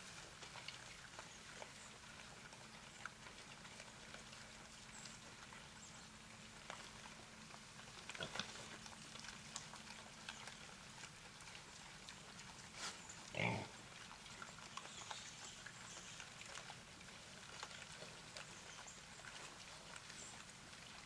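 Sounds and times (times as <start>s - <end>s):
rustling through leaf litter: 0.0s - 21.0s.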